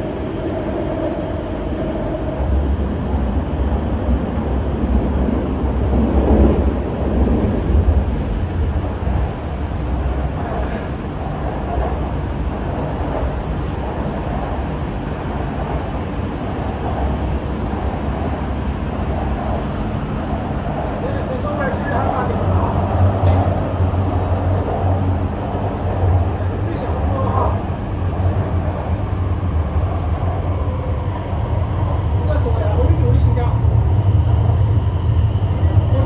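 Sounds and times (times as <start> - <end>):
train interior rumble: 0.0 - 36.0.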